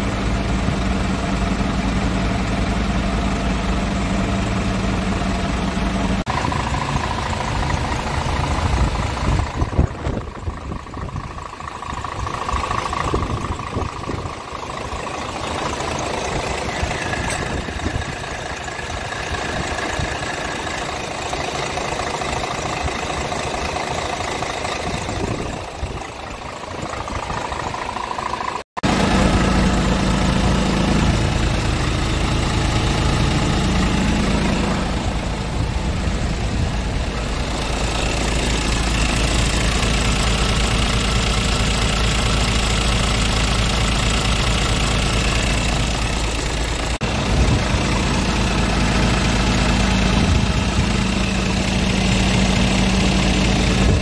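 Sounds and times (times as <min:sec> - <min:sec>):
truck diesel engine idling: 0:00.0 - 0:54.0.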